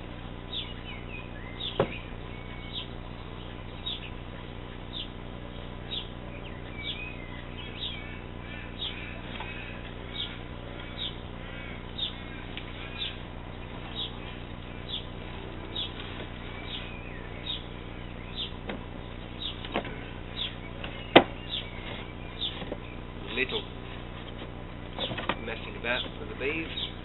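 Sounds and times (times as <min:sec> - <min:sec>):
bird chirping: 0:00.4 - 0:27.0.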